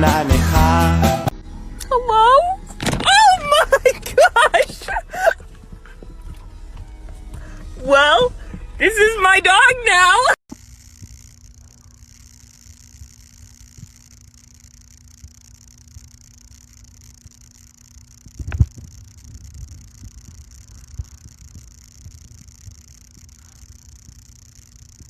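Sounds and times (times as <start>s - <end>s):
faint steady hum: 1.3s - 25.0s.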